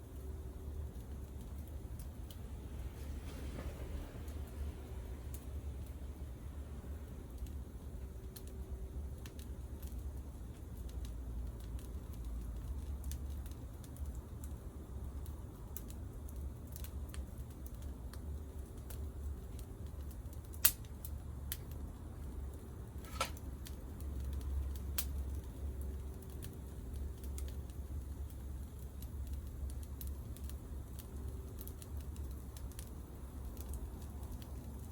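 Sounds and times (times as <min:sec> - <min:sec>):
campfire crackling: 0:00.0 - 0:34.9
low steady rumble: 0:00.0 - 0:34.9
sharp pops from fire: 0:07.0 - 0:34.9.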